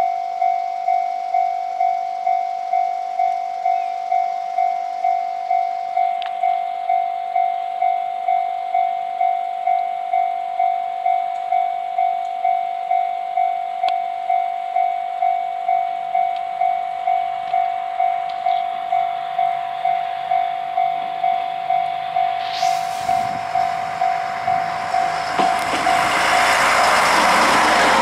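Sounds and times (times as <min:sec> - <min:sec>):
diesel railcar hum: 0:00.0 - 0:28.0.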